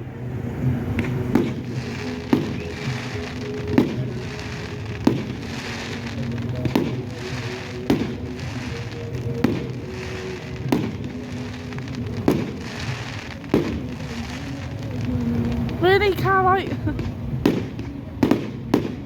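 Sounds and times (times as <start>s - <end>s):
background music: 0.0s - 19.0s
firework bangs: 0.0s - 19.0s.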